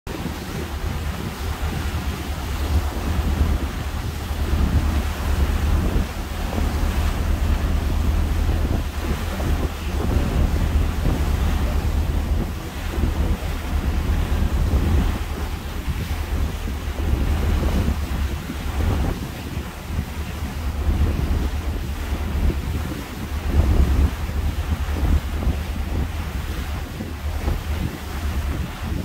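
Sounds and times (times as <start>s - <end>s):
choppy water wash: 0.0s - 29.0s
deep rumble: 0.1s - 28.9s
wind buffeting microphone: 0.1s - 29.0s.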